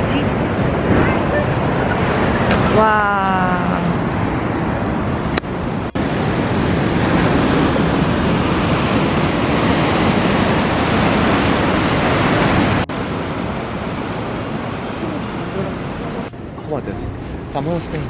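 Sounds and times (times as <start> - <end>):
ocean surf washing onto shore: 0.0 - 18.0.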